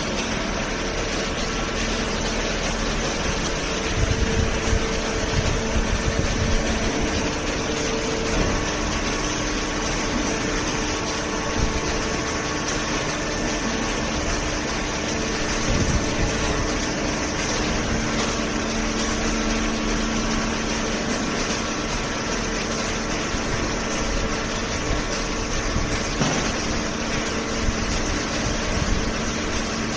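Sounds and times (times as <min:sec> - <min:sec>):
hydraulic pump motor humming: 0:00.0 - 0:29.9.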